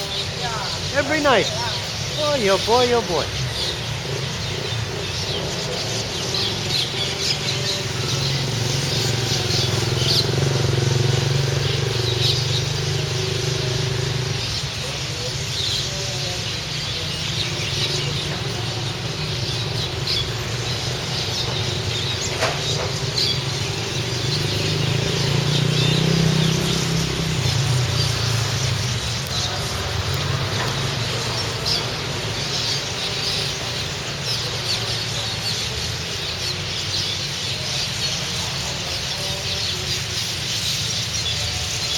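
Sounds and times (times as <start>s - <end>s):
flock of small birds chirping: 0.0s - 41.9s
traffic rumble: 0.0s - 41.9s.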